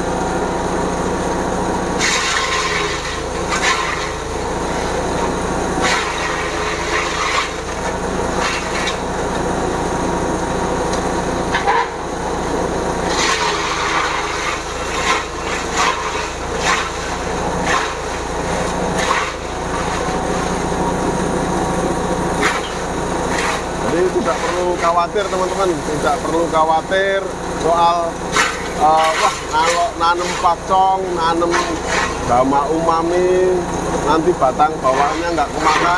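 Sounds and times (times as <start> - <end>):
engine hum: 0.0 - 35.9
blades crunching sugarcane: 1.9 - 9.7, 10.5 - 35.9.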